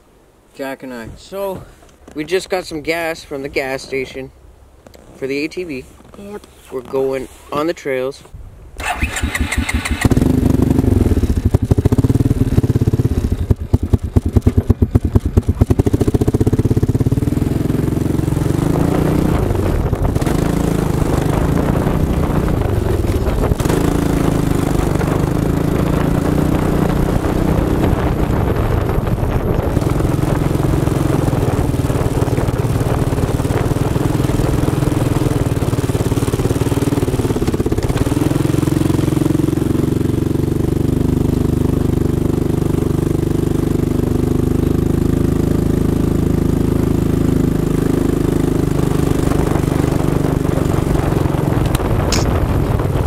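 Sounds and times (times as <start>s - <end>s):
quad bike engine running: 8.8s - 53.0s.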